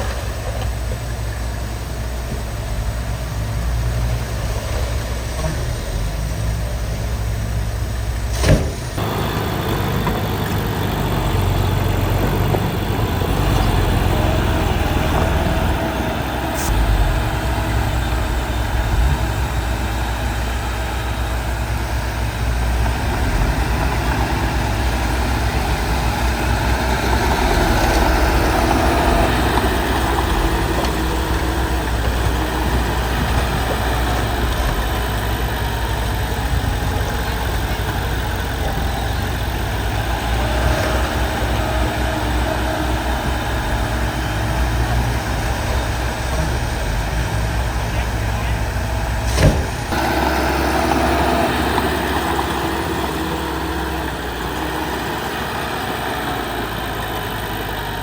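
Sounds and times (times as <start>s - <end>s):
heavy diesel machinery droning: 0.0s - 58.0s.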